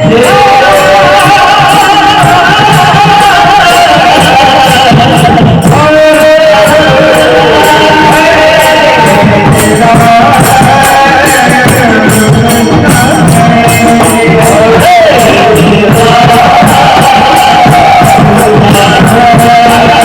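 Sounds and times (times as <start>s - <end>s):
man singing devotional song: 0.0s - 20.0s
musical accompaniment: 0.0s - 20.0s
small metallic percussion beat: 0.0s - 20.0s.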